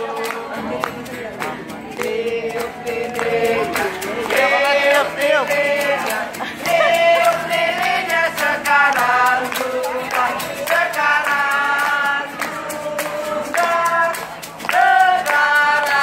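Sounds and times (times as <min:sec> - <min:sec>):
group singing a birthday song: 0:00.0 - 0:16.0
hands clapping in time: 0:00.0 - 0:16.0.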